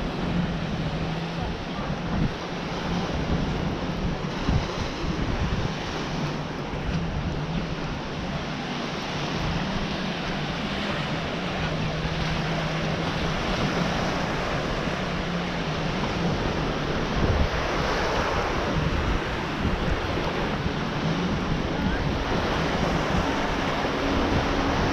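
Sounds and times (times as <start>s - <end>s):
small waves washing onto beach: 0.0s - 24.9s
wind rumbling on microphone: 0.0s - 24.9s.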